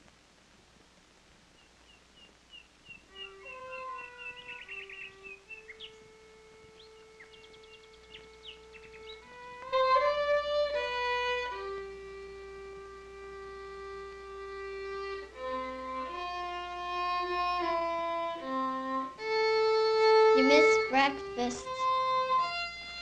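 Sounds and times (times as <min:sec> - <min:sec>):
solo violin melody: 0:03.1 - 0:23.0.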